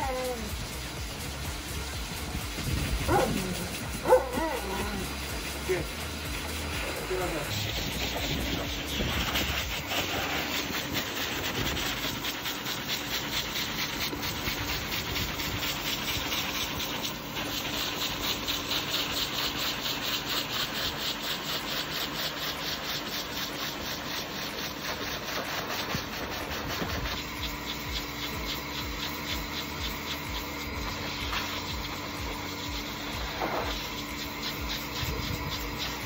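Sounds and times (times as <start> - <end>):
grooming machine humming: 0.0 - 36.0
nozzle rubbing through fur: 0.0 - 36.0.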